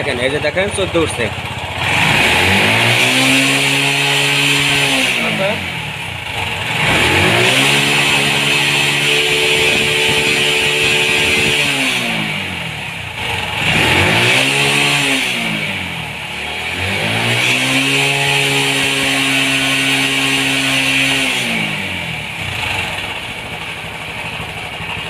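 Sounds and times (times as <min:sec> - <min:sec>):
moped engine revving: 0:00.0 - 0:25.0.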